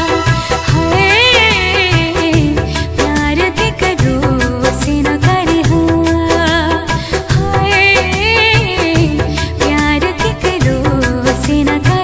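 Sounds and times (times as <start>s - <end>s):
film song with percussion: 0.0s - 12.0s.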